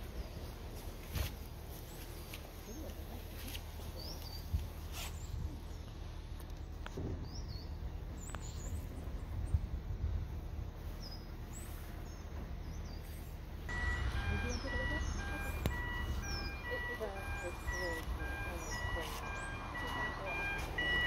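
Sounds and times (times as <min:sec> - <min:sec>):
boat engine humming: 0:00.0 - 0:21.0
small birds chirping: 0:00.0 - 0:21.0.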